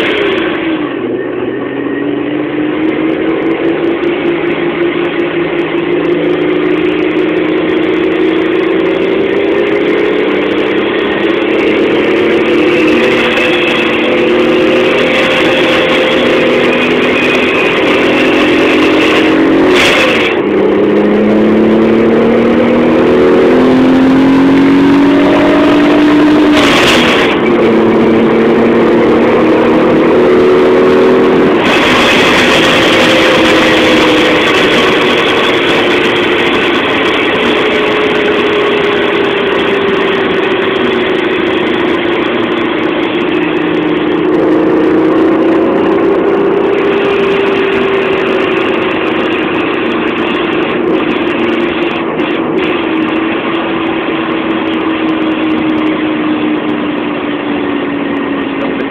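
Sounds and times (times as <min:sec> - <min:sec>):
car engine from inside cabin: 0:00.0 - 0:58.9.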